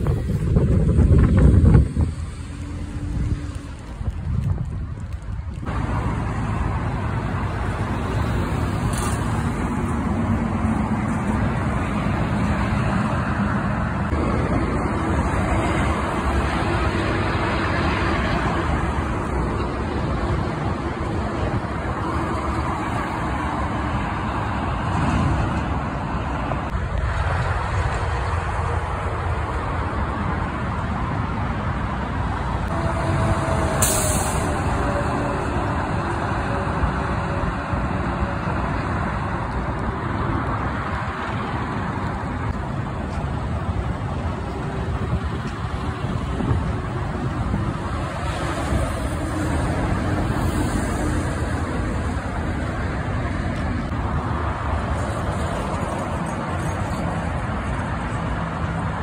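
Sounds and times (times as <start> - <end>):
highway traffic rushing: 0.0 - 59.0
truck engine hum: 0.0 - 59.0.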